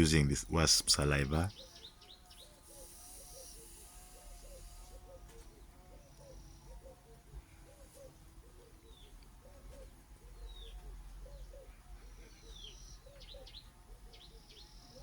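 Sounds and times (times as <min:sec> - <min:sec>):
doves cooing: 0:00.0 - 0:15.0
small bird chirping: 0:01.4 - 0:15.0.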